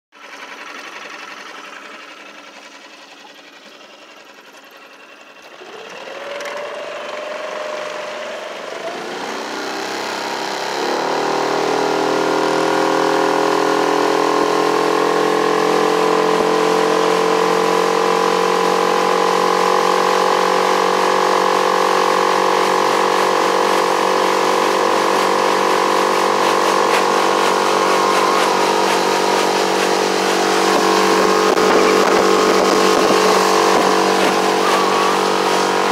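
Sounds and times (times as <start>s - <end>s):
outboard motor revving: 0.1s - 35.9s.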